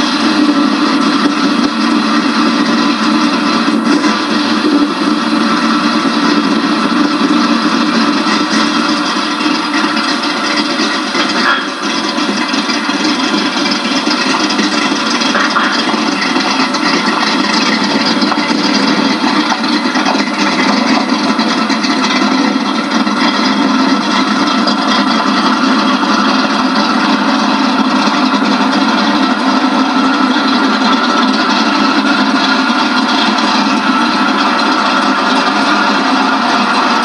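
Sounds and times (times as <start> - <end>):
muffled engine rumble: 0.0 - 37.0.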